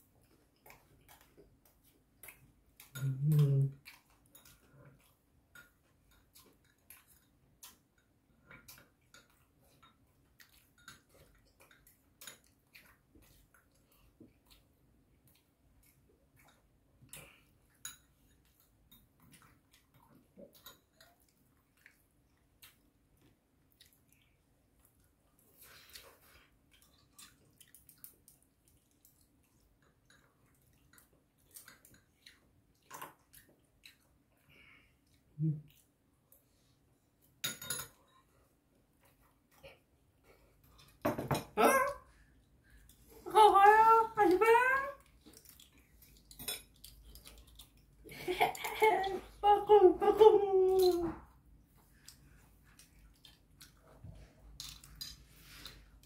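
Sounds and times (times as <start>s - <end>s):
chewing and mouth smacking: 0.0s - 37.4s, 45.0s - 49.4s, 51.5s - 56.0s.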